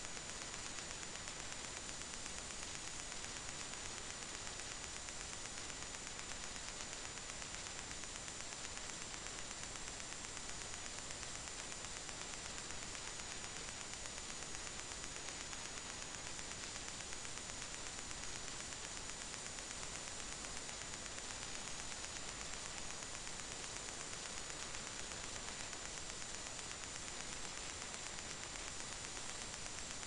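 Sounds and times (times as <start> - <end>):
audio input hiss: 0.0 - 30.0.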